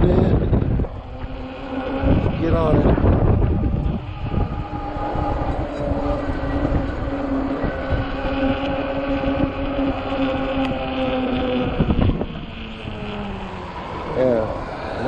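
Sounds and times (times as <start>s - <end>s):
electric motor whine: 0.0s - 15.0s
wind rumbling on microphone: 0.0s - 15.0s.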